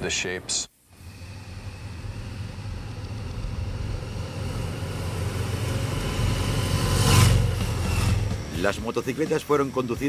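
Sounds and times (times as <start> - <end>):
motorcycle engine approaching: 1.0 - 10.0.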